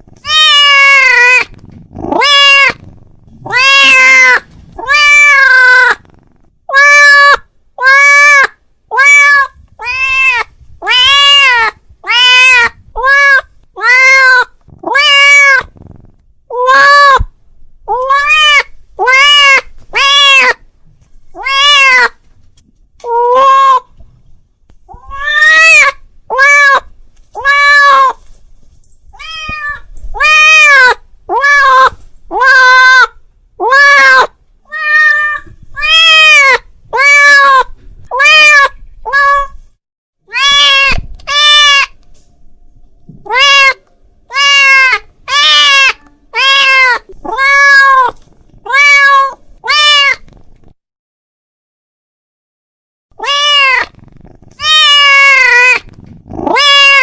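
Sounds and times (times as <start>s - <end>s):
cat meowing: 0.1s - 6.1s, 6.7s - 15.9s, 16.5s - 17.3s, 17.9s - 20.6s, 21.3s - 22.2s, 23.0s - 24.0s, 24.9s - 28.3s, 29.2s - 39.6s, 40.3s - 42.0s, 43.1s - 50.4s, 53.2s - 57.0s.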